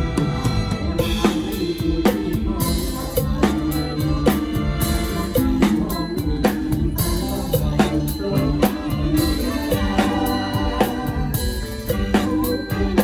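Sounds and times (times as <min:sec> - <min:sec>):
band playing upbeat music: 0:00.0 - 0:13.0
drum kit beat: 0:00.0 - 0:13.0.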